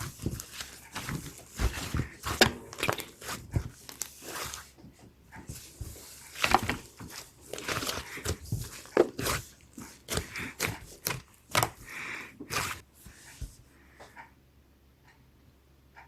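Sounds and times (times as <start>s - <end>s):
slime squelching by hand: 0.0s - 4.8s, 5.4s - 13.6s.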